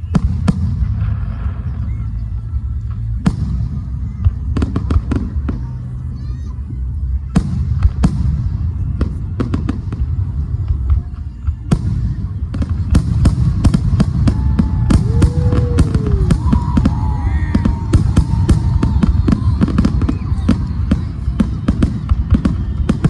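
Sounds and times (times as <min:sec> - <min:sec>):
fireworks bangs and crackles: 0:00.0 - 0:23.0
whistling fireworks: 0:00.0 - 0:23.0.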